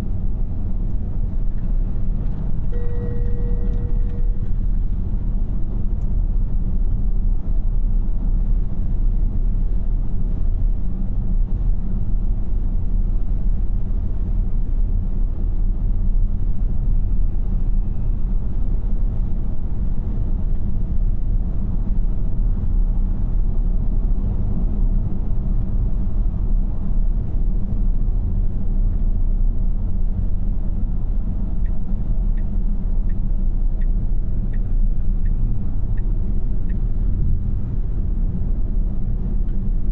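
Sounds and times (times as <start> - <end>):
road and tyre noise in car: 0.0 - 39.9.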